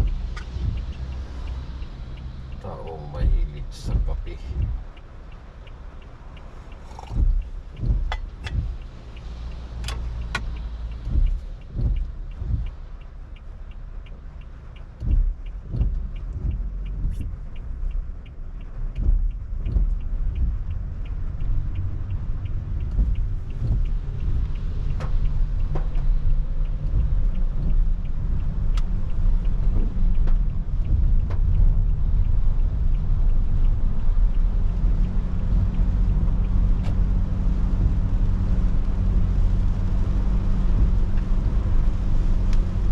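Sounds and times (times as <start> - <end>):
low thumps: 0.0 - 2.6, 3.2 - 5.0, 6.7 - 9.1, 9.7 - 14.2, 14.8 - 42.9
fast even ticking: 0.0 - 42.8
car road and engine rumble: 0.0 - 42.9.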